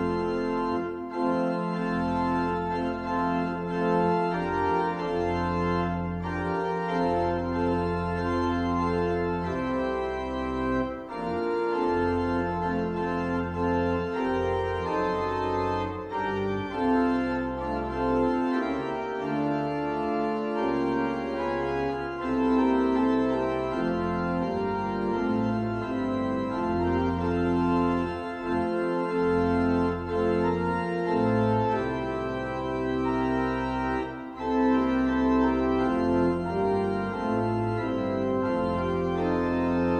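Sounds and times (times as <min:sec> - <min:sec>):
organ playing a hymn: 0:00.0 - 0:39.9.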